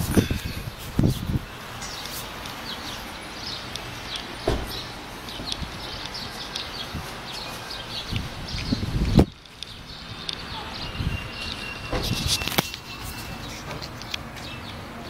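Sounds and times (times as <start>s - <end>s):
outdoor background noise: 0.0s - 15.0s
small birds chirping: 0.1s - 15.0s.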